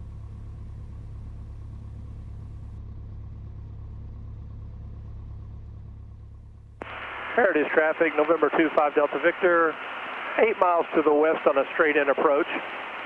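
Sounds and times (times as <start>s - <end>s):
aircraft engine droning: 0.0s - 3.4s, 4.1s - 13.0s.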